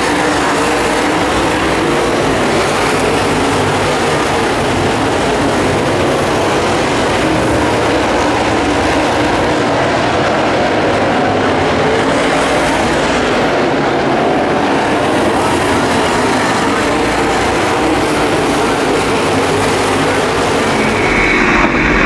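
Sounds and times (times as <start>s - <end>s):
race car engines droning: 0.0s - 22.0s.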